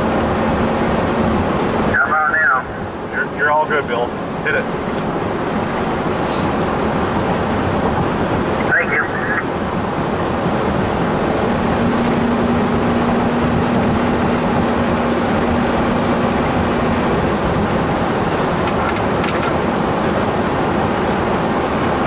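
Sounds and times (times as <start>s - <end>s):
road noise inside moving vehicle: 0.0s - 22.0s.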